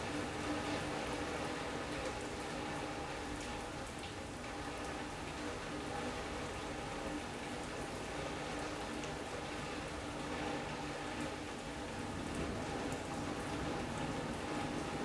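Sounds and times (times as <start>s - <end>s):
rain on roof and windows: 0.1s - 15.0s.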